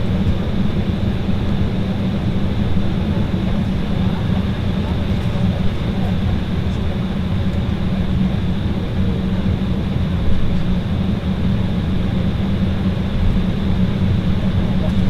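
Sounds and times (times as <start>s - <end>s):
jet engine cabin roar: 0.0s - 15.0s.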